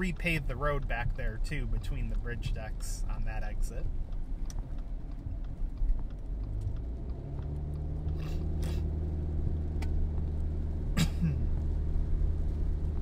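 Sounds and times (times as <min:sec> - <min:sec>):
car engine and tyre drone: 0:00.0 - 0:13.0
rain ticking on windshield: 0:00.0 - 0:13.0.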